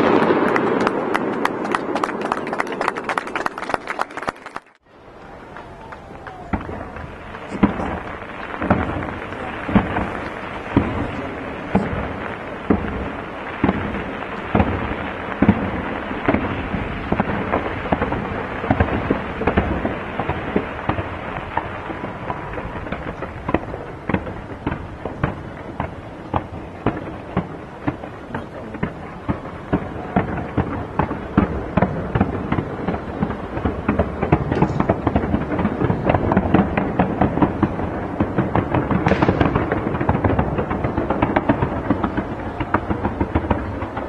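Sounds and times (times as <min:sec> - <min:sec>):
fireworks bangs: 0:00.0 - 0:44.0
fireworks crackle: 0:00.0 - 0:44.0.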